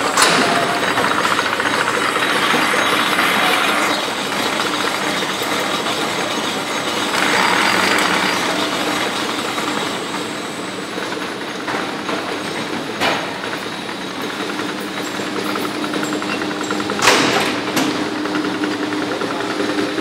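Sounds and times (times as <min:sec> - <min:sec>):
machinery clattering: 0:00.0 - 0:19.7.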